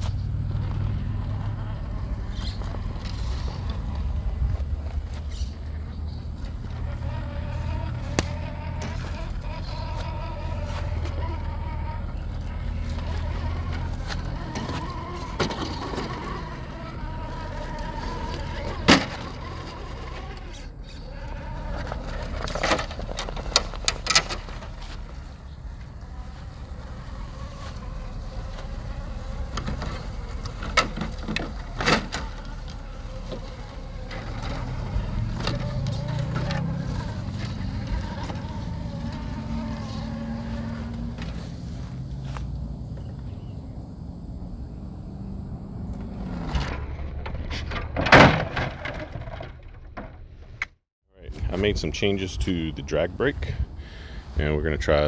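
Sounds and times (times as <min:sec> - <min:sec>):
rc motor whining: 0:00.0 - 0:46.7.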